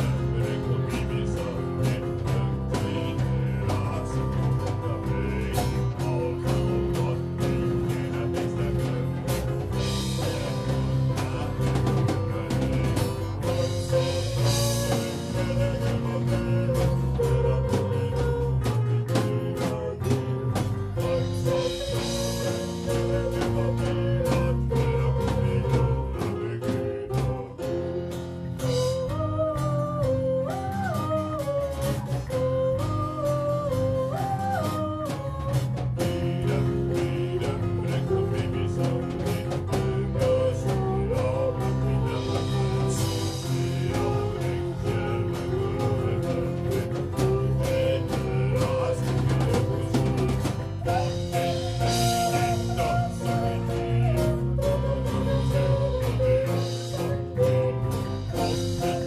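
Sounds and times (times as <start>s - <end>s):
drums and cymbals: 0.0s - 59.0s
person singing: 0.0s - 59.0s.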